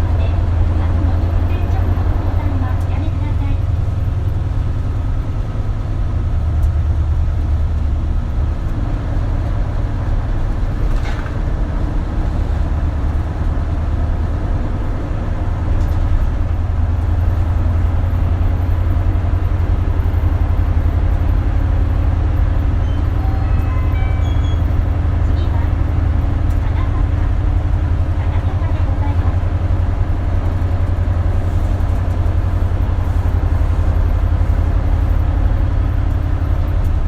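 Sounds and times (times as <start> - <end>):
bus diesel engine drone: 0.0 - 37.0
road noise: 0.0 - 37.0.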